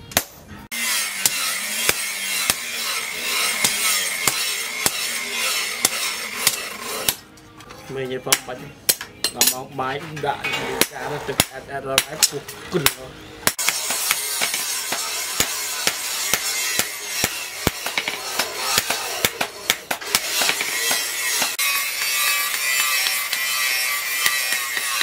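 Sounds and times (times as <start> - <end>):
hammer striking blade on anvil: 0.1 - 7.2, 10.4 - 25.0.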